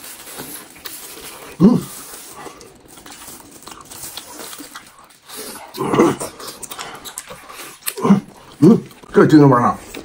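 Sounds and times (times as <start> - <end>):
man chewing meat: 0.0 - 10.0.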